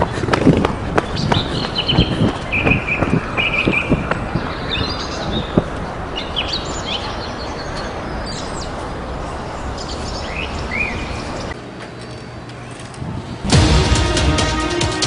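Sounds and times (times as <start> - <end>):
birds chirping: 0.0 - 12.9
street noise hiss: 0.0 - 15.0.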